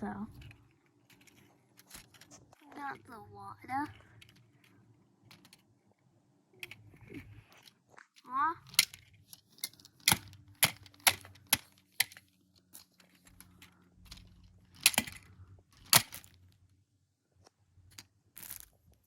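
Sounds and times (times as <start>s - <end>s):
plastic pieces clacking together: 0.3s - 16.7s, 17.8s - 19.0s.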